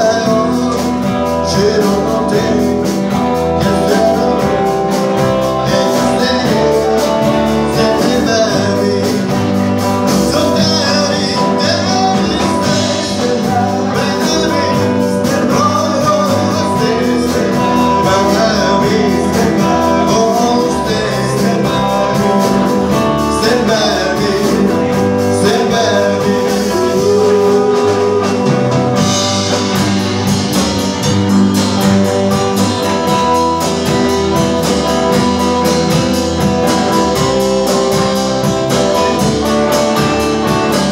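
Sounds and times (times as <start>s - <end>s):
live rock and roll band: 0.0s - 40.9s
person singing: 0.0s - 40.9s.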